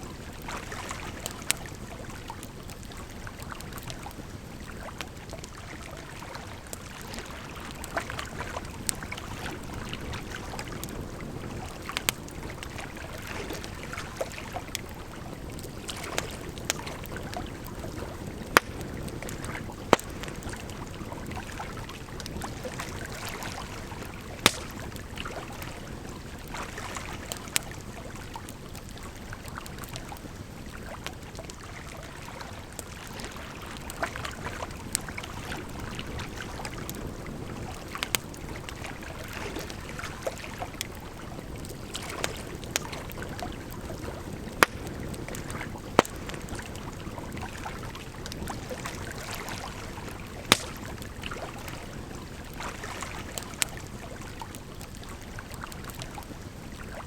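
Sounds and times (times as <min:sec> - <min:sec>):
flowing water: 0:00.0 - 0:57.0
wood fire crackling and popping: 0:00.2 - 0:31.6, 0:32.6 - 0:49.2, 0:49.9 - 0:51.4.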